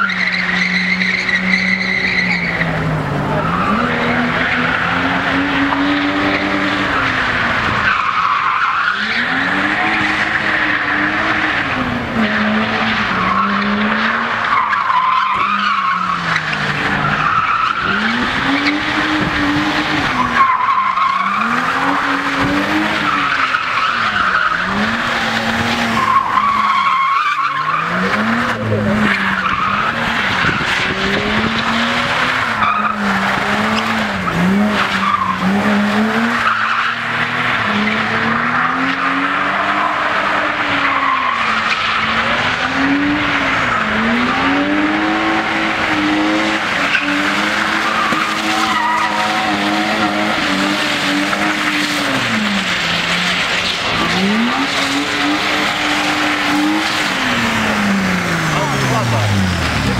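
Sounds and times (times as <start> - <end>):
car engine revving: 0.0 - 59.9
tyres skidding and squealing: 0.0 - 59.9.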